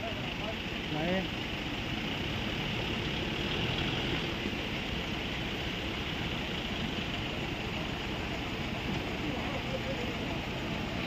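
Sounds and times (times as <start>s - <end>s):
truck engine rumbling past: 0.0s - 11.0s.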